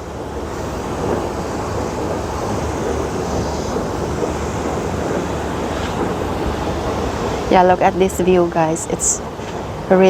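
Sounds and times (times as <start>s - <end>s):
wind on microphone: 0.0s - 9.9s.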